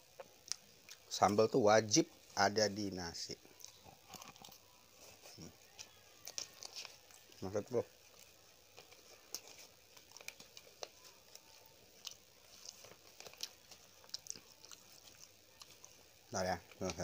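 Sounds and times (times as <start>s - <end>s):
faint chewing with mouth closed: 0.0s - 1.5s, 3.4s - 17.0s.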